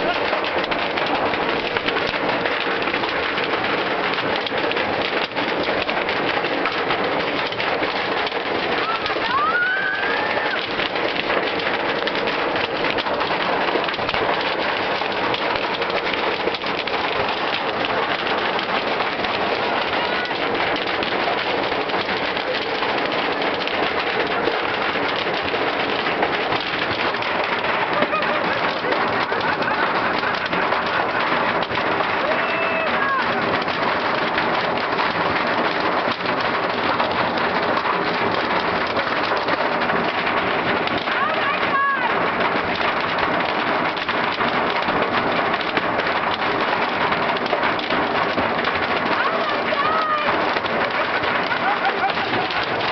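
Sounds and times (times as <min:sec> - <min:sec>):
hail clattering on a car: 0:00.0 - 0:52.9.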